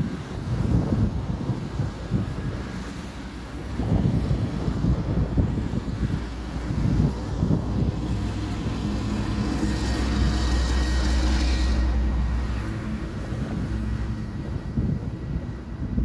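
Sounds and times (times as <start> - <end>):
diesel locomotive engine droning: 0.0 - 16.0.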